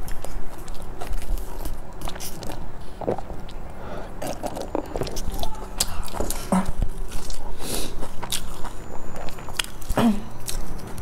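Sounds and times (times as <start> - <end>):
mouth clicks and smacks: 0.0 - 11.0.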